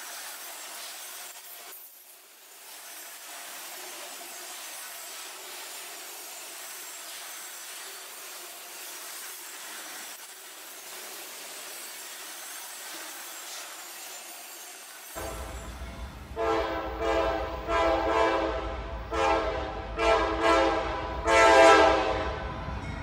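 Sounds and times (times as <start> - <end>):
steel wheels rushing on rail: 0.0 - 23.0.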